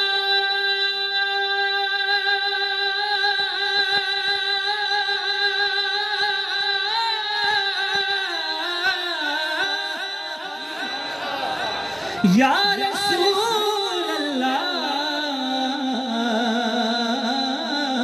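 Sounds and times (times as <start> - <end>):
young man chanting: 0.0 - 18.0.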